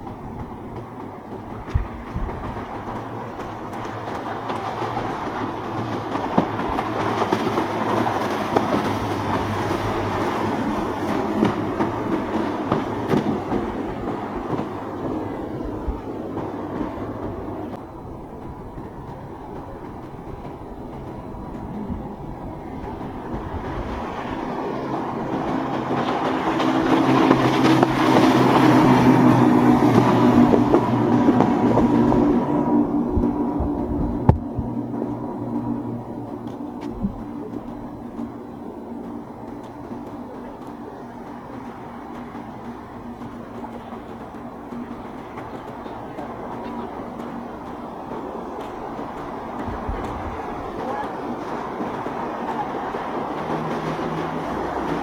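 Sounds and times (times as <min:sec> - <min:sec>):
boat engine running: 0:00.0 - 0:55.0
water rushing: 0:00.0 - 0:55.0
water slapping and splashing: 0:00.0 - 0:55.0.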